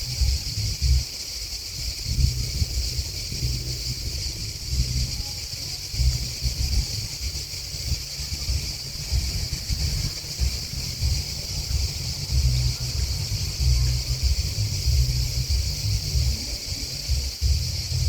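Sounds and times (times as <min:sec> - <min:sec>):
grasshoppers and crickets chirping: 0:00.0 - 0:18.0
wind gusts buffeting microphone: 0:00.0 - 0:18.0.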